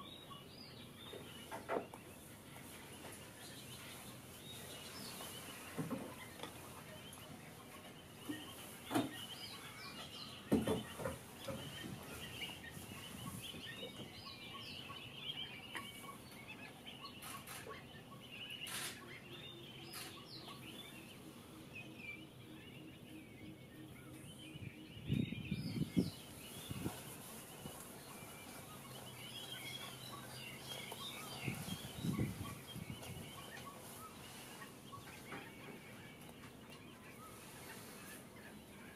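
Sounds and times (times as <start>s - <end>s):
birds calling in chatter: 0.0s - 38.9s.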